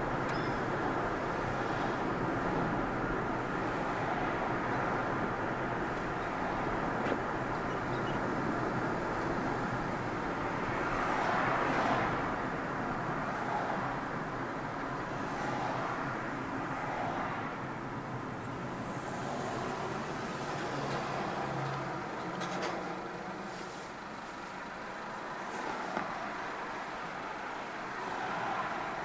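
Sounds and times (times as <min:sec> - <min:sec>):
car road and tyre noise: 0:00.0 - 0:29.0.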